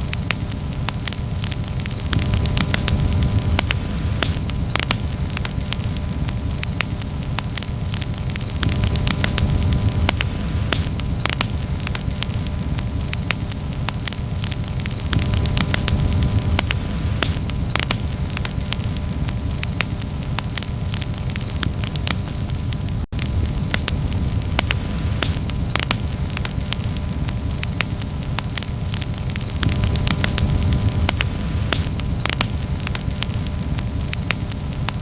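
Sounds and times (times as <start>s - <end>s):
campfire crackling and popping: 0.0s - 35.0s
low rumble of flame: 0.0s - 35.0s.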